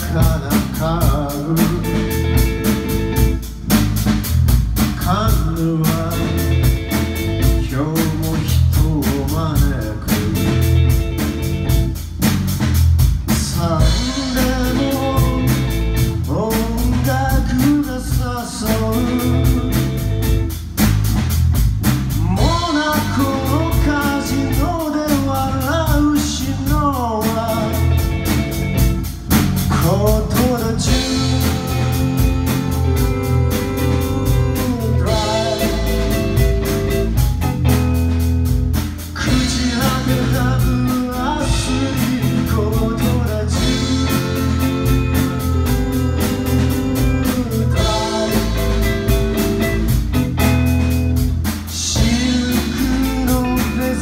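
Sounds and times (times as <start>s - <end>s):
lead vocal singing: 0.0s - 3.4s, 4.9s - 10.9s, 13.3s - 20.6s, 22.1s - 29.0s, 29.6s - 37.1s, 39.0s - 50.0s, 51.7s - 54.0s
bass guitar: 0.0s - 54.0s
drum kit beat: 0.0s - 54.0s
electric guitar: 0.0s - 54.0s.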